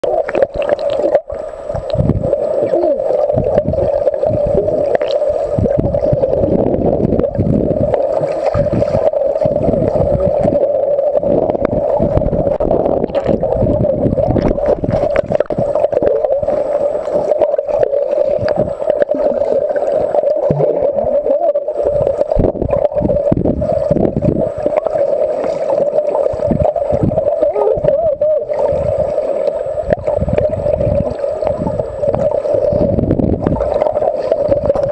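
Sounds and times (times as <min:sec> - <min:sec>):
steady droning hum underwater: 0:00.0 - 0:34.9
water rushing and sloshing: 0:00.0 - 0:34.9.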